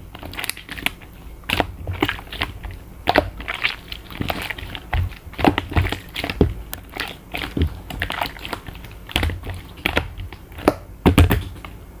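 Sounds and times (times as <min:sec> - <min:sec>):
slime clicking and crackling: 0:00.0 - 0:11.8.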